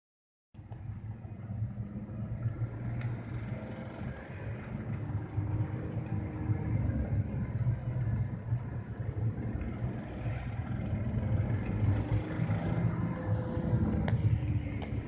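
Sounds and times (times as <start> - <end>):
car engine low rumble: 0.6 - 15.0.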